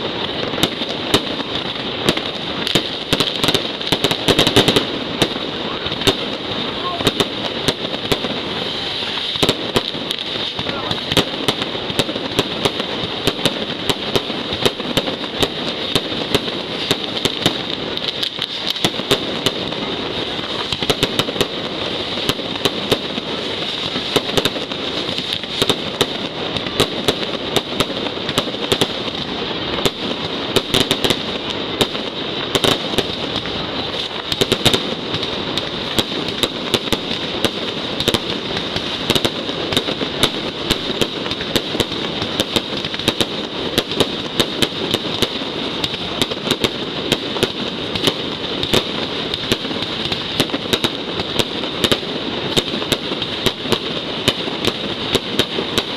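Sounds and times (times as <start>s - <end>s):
aerial fireworks bursting: 0.0s - 55.9s
firecracker bangs and crackling: 0.0s - 55.9s.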